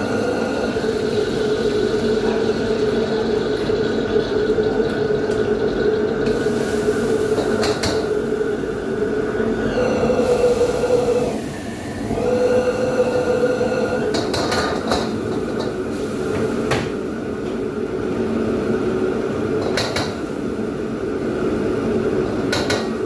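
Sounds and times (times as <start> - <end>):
wok burner and extractor roar: 0.0 - 23.0.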